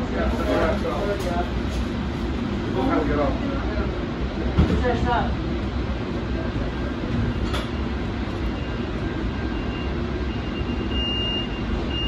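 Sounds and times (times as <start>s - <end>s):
tram cab rumble and hum: 0.0s - 12.0s.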